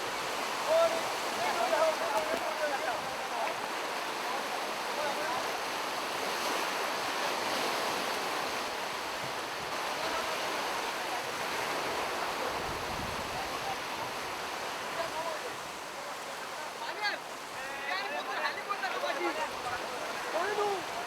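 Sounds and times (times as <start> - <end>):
surf washing on beach: 0.0 - 21.0.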